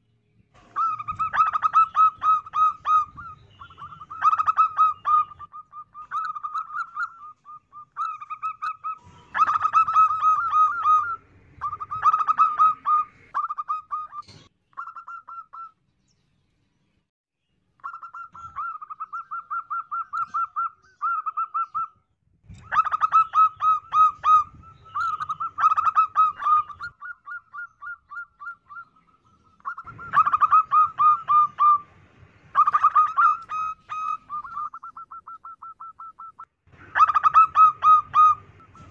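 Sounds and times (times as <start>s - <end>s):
dove cooing: 0.6s - 15.7s, 17.8s - 21.9s, 22.6s - 31.9s, 32.5s - 38.9s.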